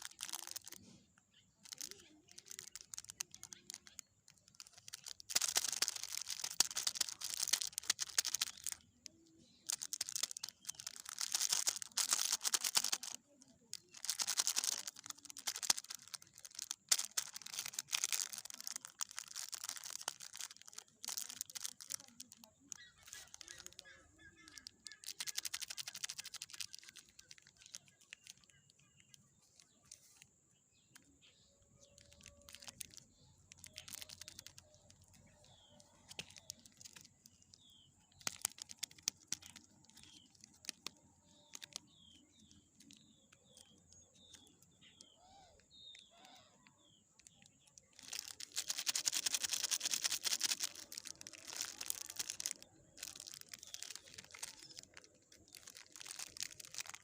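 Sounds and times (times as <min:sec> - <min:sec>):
plastic wrappers crinkling: 0:00.0 - 0:30.3, 0:30.9 - 0:57.0
faint bird chirps: 0:00.0 - 0:57.0.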